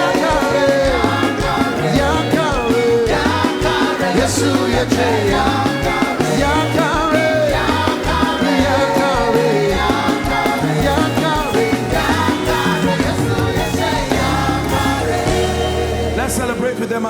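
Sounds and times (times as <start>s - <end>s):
stepping bass line: 0.0s - 16.8s
gospel band playing: 0.0s - 17.0s
person singing: 0.0s - 17.0s.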